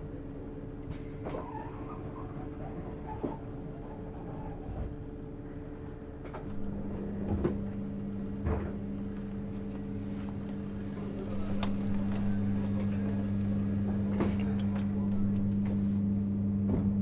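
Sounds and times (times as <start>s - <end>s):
train cabin hum: 0.4s - 17.0s.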